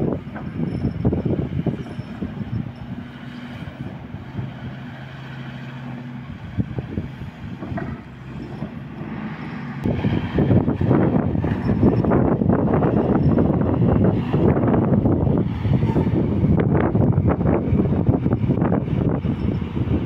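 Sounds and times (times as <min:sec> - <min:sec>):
low engine hum: 0:00.0 - 0:20.0
wind rumbling on microphone: 0:00.0 - 0:20.0.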